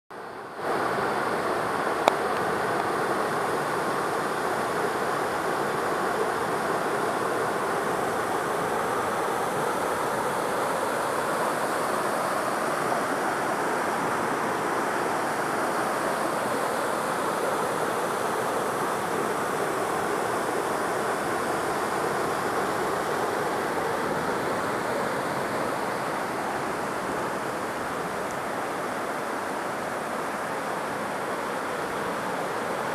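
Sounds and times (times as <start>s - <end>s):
waterfall rushing into pool: 0.2s - 32.9s.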